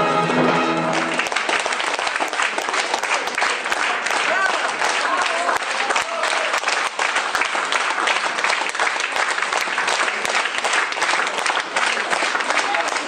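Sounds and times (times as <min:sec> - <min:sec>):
audience applause: 0:00.2 - 0:13.0.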